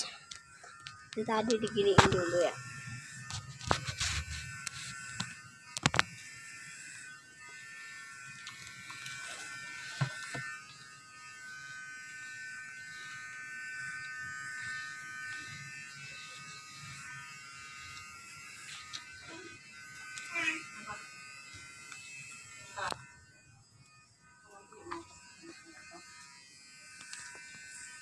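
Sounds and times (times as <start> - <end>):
electric hair clipper buzzing: 0.0 - 28.0.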